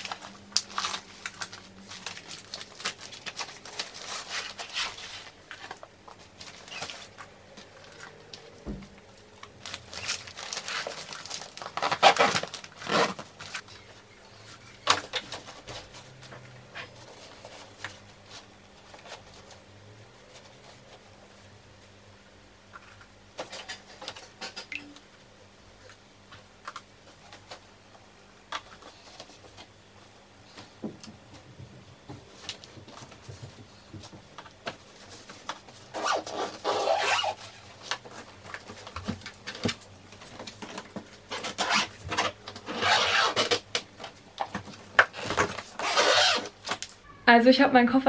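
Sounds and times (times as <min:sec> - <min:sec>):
clothes and fabric rustling: 0:00.0 - 0:22.0, 0:25.8 - 0:48.0.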